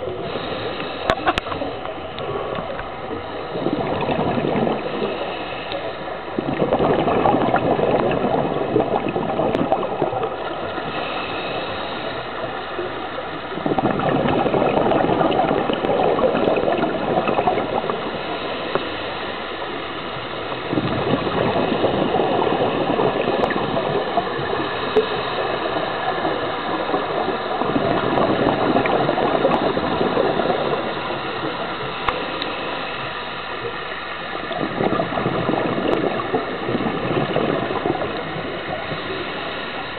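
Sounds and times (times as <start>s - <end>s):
air bubbles rushing and gurgling: 0.0s - 39.9s.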